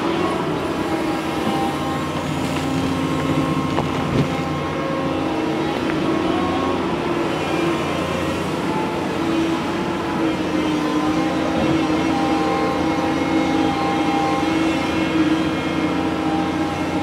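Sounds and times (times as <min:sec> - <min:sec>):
excavator diesel engine working: 0:00.0 - 0:17.0.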